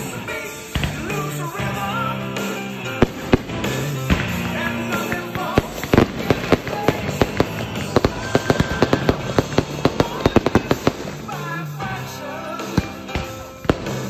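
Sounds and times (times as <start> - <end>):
fireworks bangs: 0.0 - 14.0
music: 0.0 - 14.0.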